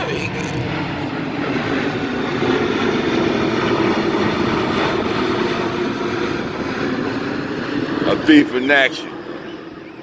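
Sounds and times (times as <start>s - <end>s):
airplane engine passing overhead: 0.0s - 10.0s.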